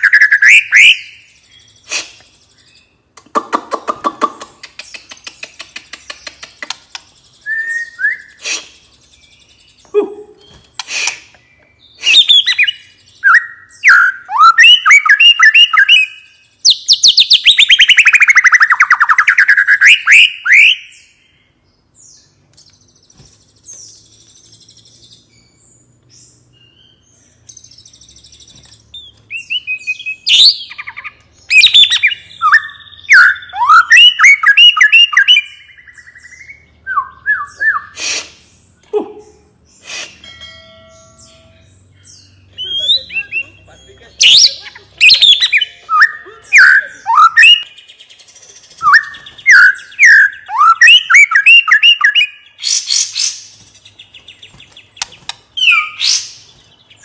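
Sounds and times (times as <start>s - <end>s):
bird singing whistles and trills: 0.0s - 3.0s, 6.1s - 40.3s, 40.9s - 57.0s.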